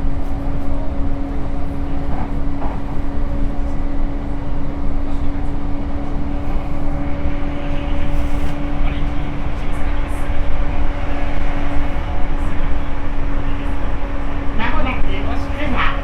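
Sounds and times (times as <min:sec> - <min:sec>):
constant hum: 0:00.0 - 0:16.0
train wheels rumbling on rail: 0:00.0 - 0:16.0.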